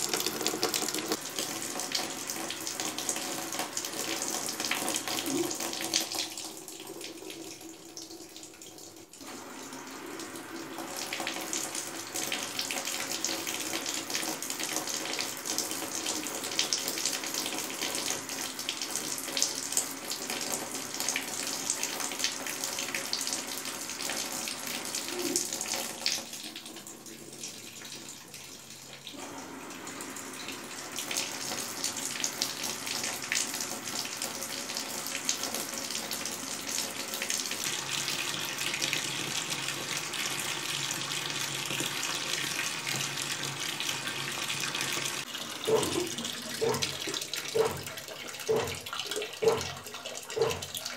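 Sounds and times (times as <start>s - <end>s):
water running into washing machine: 0.0s - 50.9s.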